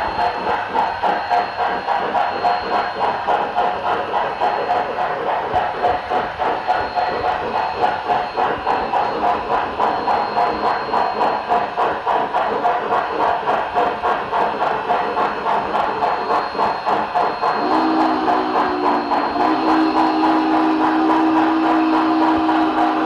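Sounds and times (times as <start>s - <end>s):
steam locomotive exhaust chuffs: 0.0s - 23.0s.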